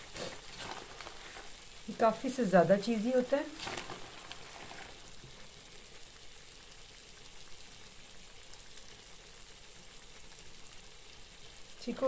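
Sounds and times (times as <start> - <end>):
sauce sizzling and bubbling: 0.0 - 12.0.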